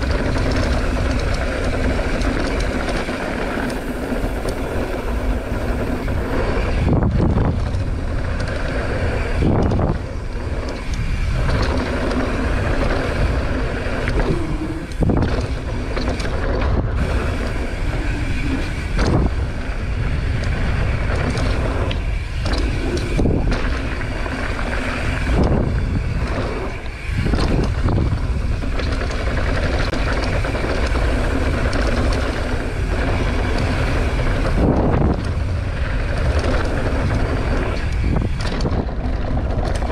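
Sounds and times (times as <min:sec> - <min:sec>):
bike tyre and frame rattle: 0:00.0 - 0:39.9
wind over microphone: 0:00.0 - 0:39.9.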